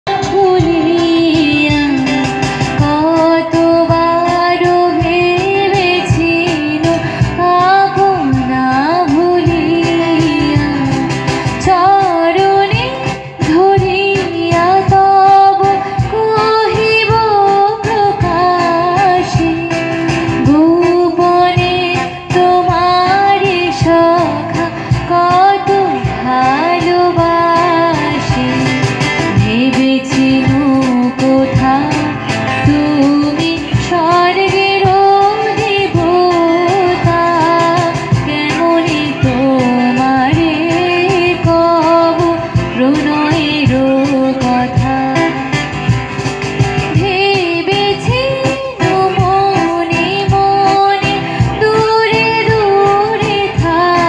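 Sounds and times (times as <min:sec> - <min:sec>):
woman singing into a microphone: 0:00.0 - 0:54.0
strummed acoustic guitars: 0:00.1 - 0:54.0.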